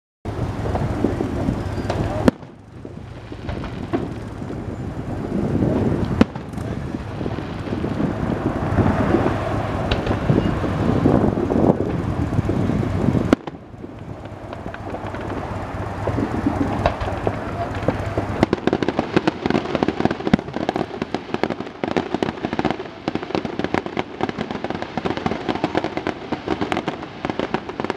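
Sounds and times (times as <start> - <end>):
crowd noise rumble: 0.3 - 27.9
firework cracks: 0.3 - 27.9
wind on microphone: 0.3 - 27.9.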